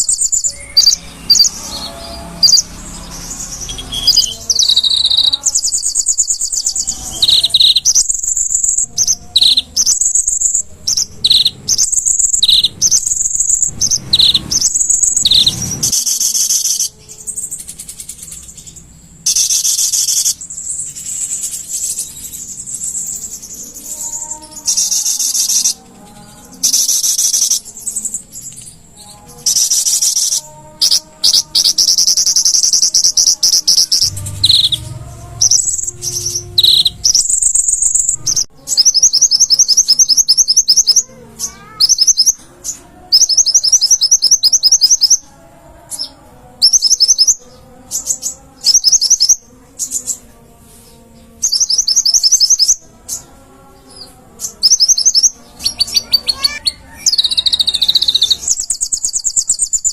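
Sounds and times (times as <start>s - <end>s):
bird singing buzzy trills: 0.0s - 59.9s.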